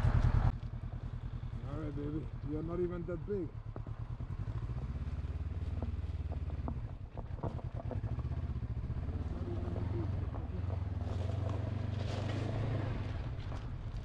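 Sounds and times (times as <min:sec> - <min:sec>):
gravel crunching under tyres: 0:00.0 - 0:14.0
motorcycle engine at low revs: 0:00.0 - 0:14.0.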